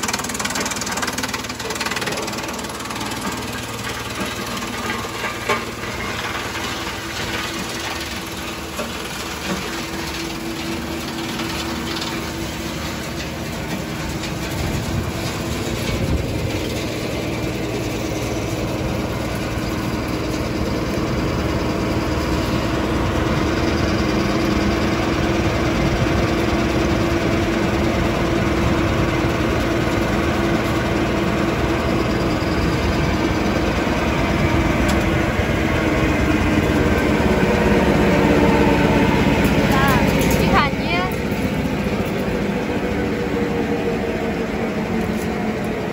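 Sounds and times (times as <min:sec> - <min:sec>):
wood chipper running: 0:00.0 - 0:45.9.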